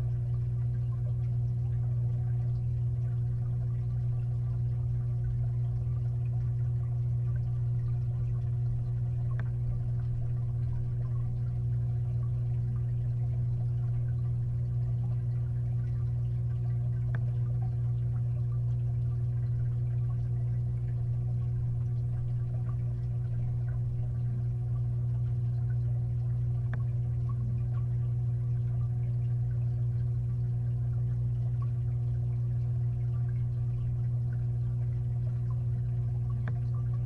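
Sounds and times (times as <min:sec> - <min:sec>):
fish tank filter humming underwater: 0:00.0 - 0:37.0
faint ticks: 0:04.2 - 0:37.0.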